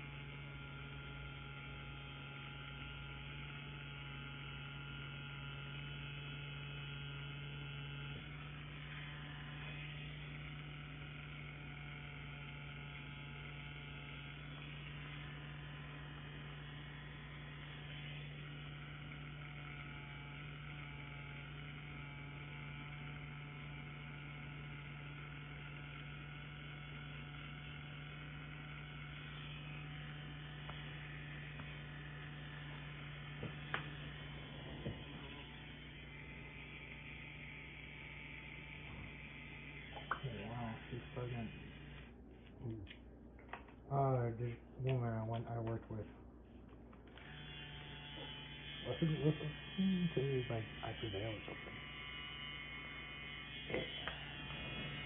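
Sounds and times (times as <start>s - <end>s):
tattoo pen buzzing hum: 0.0s - 44.3s, 47.0s - 55.0s.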